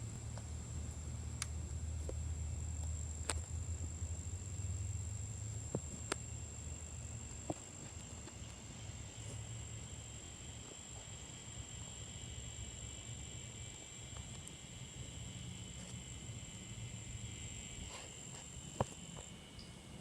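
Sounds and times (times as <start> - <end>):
high continuous insect tone: 0.0 - 20.0
faint insect buzzing: 0.1 - 19.9.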